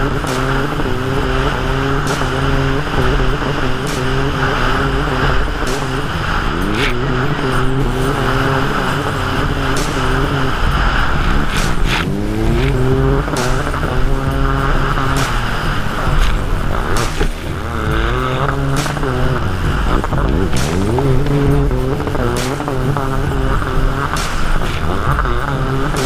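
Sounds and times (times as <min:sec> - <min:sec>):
jet ski engine running hard: 0:00.0 - 0:26.0.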